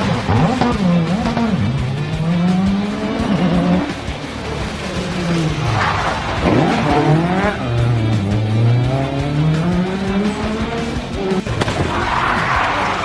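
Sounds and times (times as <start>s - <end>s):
car engine revving: 0.0s - 13.0s
exhaust cracks: 0.0s - 13.0s.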